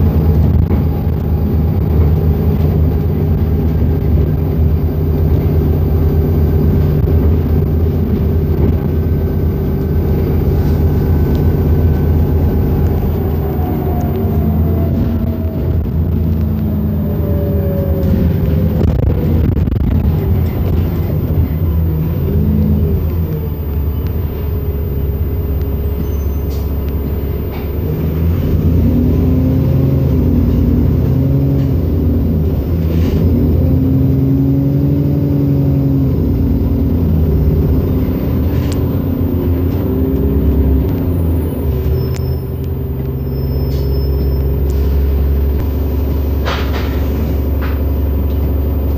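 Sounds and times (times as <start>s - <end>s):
bus engine humming: 0.0s - 48.9s.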